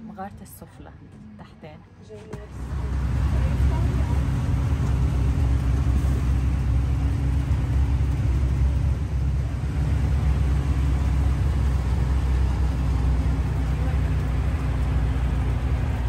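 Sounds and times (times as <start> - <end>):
low engine and road rumble: 0.0 - 16.0.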